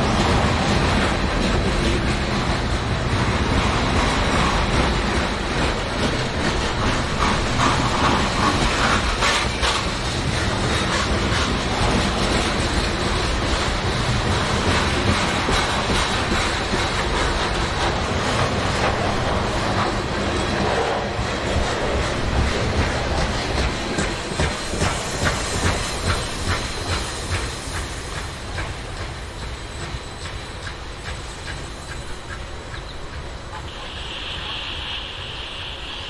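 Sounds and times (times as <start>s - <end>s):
train wheels clicking over rail joints: 0.0s - 34.4s
train rumble: 0.0s - 36.0s.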